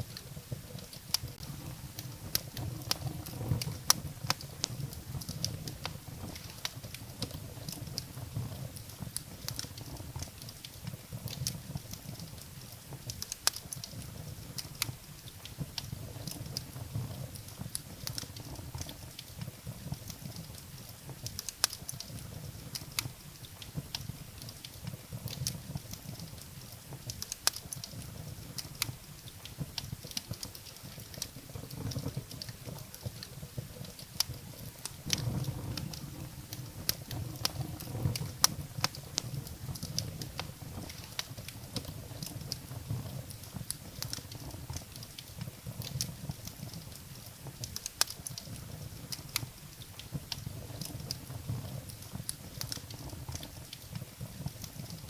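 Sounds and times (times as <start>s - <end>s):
firewood crackling and popping: 0.0s - 55.0s
low rumble of flame: 0.0s - 55.0s.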